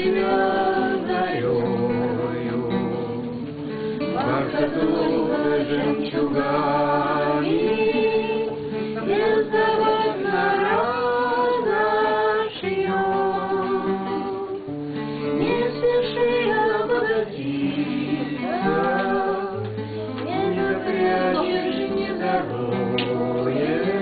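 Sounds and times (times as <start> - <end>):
voices singing in harmony: 0.0 - 24.0.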